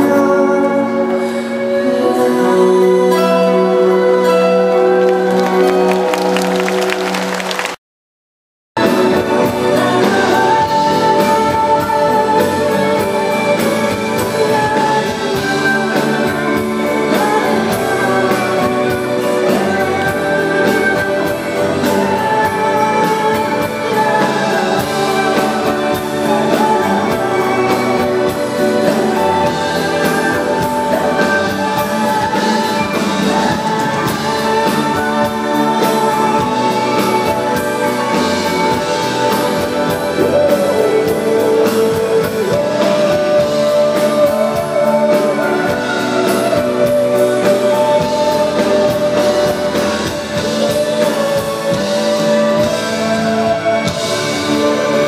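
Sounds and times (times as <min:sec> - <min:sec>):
man singing: 0:00.0 - 0:06.1, 0:08.8 - 0:55.0.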